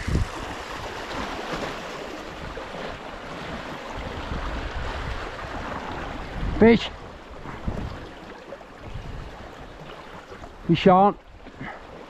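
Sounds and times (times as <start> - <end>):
wind on microphone: 0.0 - 10.5
surf splashing against rocks: 0.0 - 12.0.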